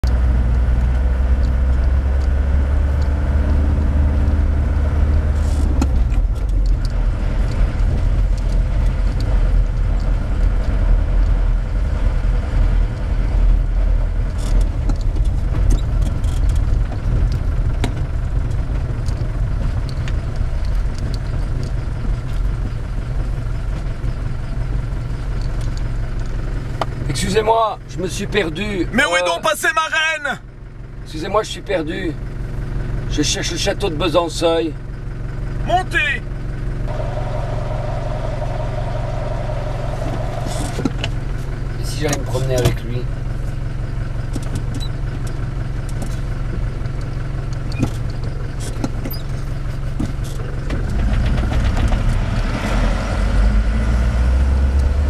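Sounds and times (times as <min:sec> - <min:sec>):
road noise: 0:00.0 - 0:55.0
vehicle engine rumble: 0:00.0 - 0:55.0.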